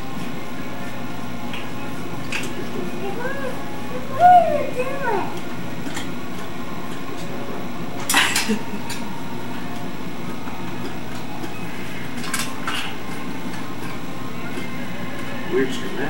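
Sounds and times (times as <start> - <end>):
video recording hum and hiss: 0.0 - 16.0.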